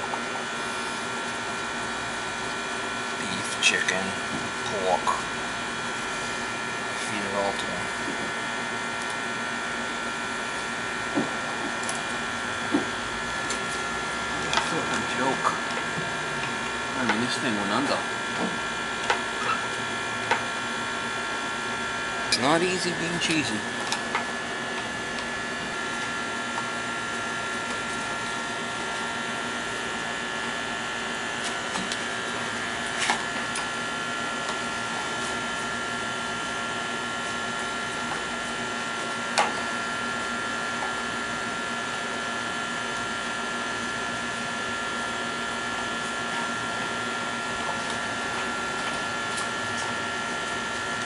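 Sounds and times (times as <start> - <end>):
motor hum with high whine: 0.0 - 51.0.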